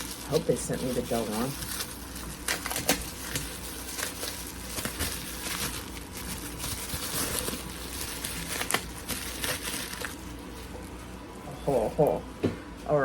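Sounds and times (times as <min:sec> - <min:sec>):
packaging rustling: 0:00.0 - 0:11.2.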